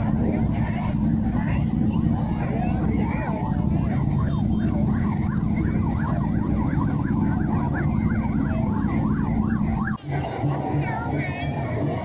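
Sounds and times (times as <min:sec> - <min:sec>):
siren sweeping up and down: 0:00.0 - 0:10.0
dense low rumble: 0:00.0 - 0:12.0.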